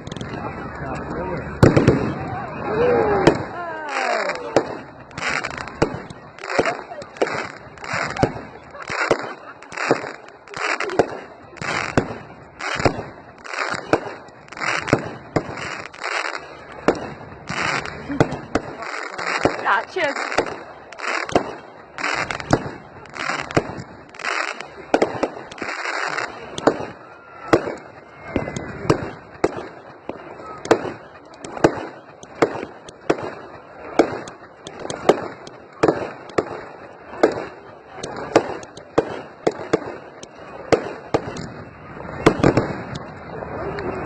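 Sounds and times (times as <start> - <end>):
fireworks crackling: 0.0 - 44.0
firework shells bursting: 3.2 - 41.6.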